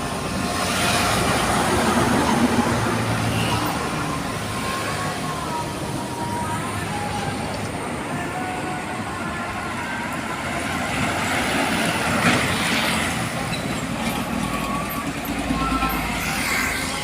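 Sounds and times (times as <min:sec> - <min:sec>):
heavy truck passing: 0:00.0 - 0:17.0.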